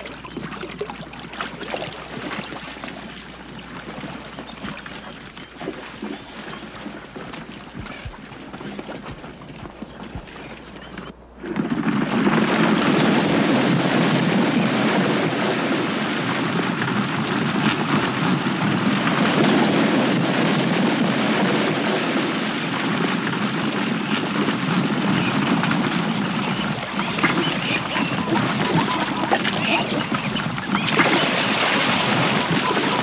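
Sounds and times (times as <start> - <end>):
galloping hooves: 0.0 - 33.0
splashing water: 0.0 - 33.0.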